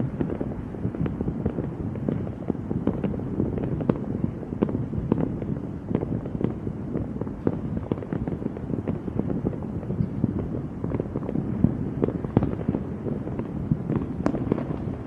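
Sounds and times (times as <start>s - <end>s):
continuous rumble: 0.0s - 15.0s
fireworks bangs and pops: 0.0s - 15.0s.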